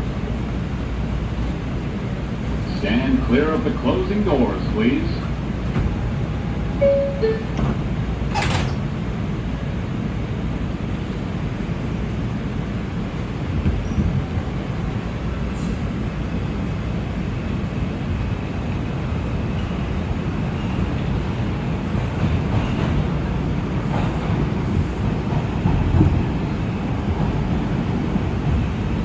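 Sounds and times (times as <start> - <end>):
subway doors closing knock: 0.0 - 16.7, 18.7 - 29.0
subway car rumble: 0.0 - 29.0.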